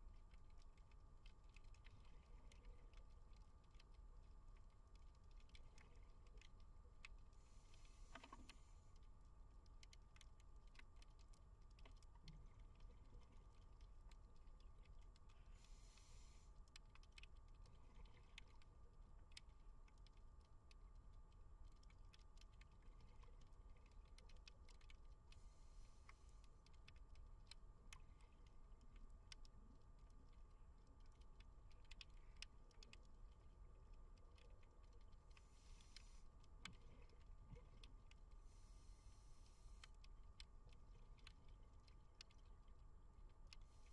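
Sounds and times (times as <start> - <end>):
small scattered clicks and crackles: 0.0 - 43.9.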